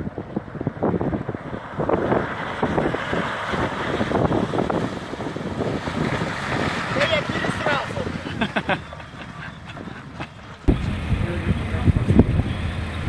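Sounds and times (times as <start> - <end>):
wind on microphone: 0.0 - 13.0
wheels splashing through water: 0.3 - 13.0.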